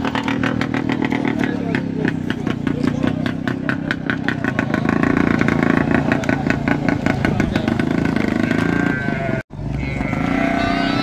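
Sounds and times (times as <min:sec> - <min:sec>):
voices: 0:00.0 - 0:11.0.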